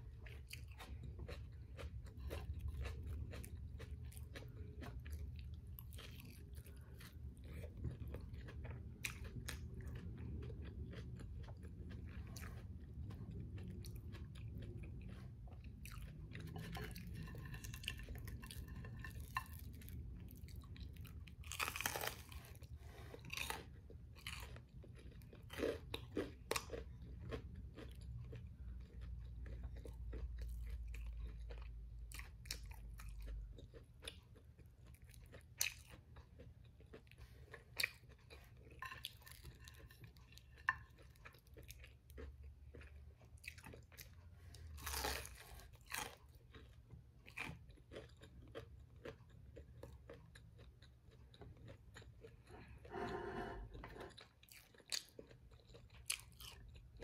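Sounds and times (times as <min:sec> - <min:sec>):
chewing crunchy fried food: 0:00.0 - 0:57.0.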